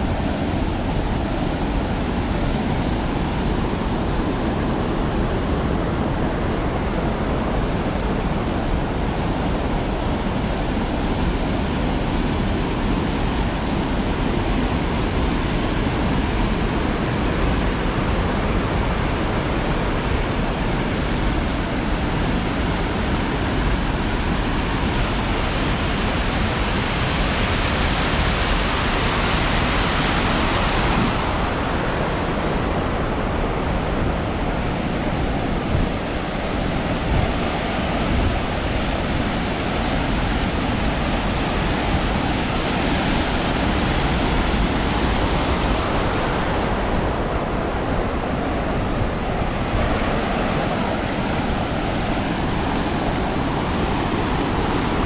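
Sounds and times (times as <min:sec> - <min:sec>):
river water rushing over weirs: 0:00.0 - 0:55.0.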